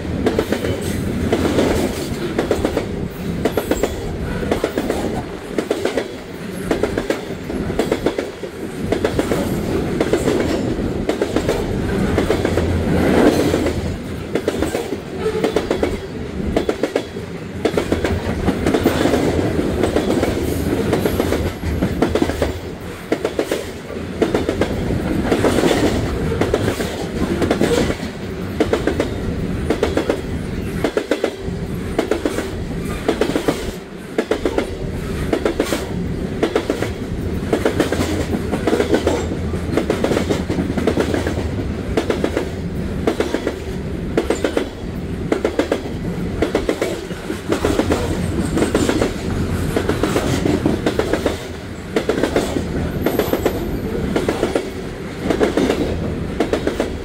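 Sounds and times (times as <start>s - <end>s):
train rumble: 0.0s - 57.0s
train wheels clicking over rail joints: 0.1s - 57.0s.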